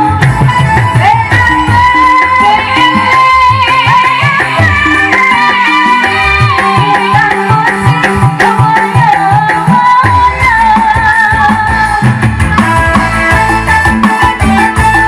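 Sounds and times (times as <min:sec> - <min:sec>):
keyboard accompaniment with drum beat: 0:00.0 - 0:15.0
woman singing into a microphone: 0:00.0 - 0:15.0.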